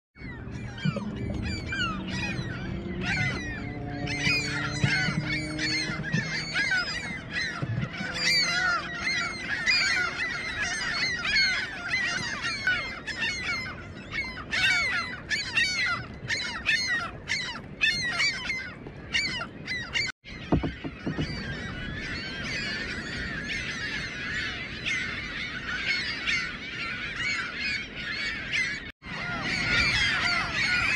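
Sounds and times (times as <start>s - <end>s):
gulls calling: 0.2s - 30.9s.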